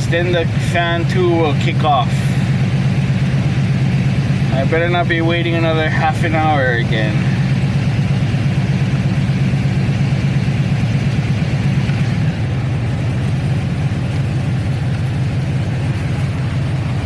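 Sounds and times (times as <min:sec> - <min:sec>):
radiator fans running: 0:00.0 - 0:17.0
vee eight engine idling: 0:00.0 - 0:17.0.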